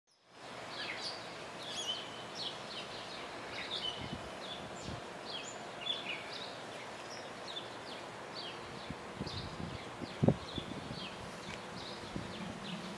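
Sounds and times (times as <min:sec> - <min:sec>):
outdoor background hiss: 0:00.1 - 0:12.9
small birds chirping: 0:00.1 - 0:12.9.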